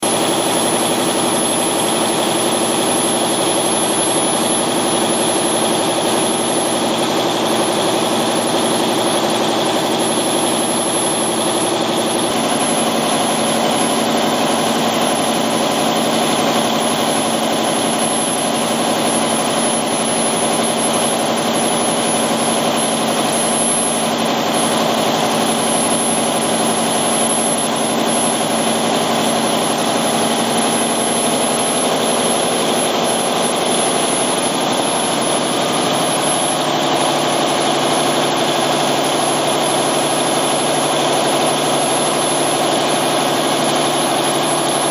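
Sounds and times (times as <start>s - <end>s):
diesel engine running: 0.0s - 44.9s
thin high whine: 0.0s - 44.9s.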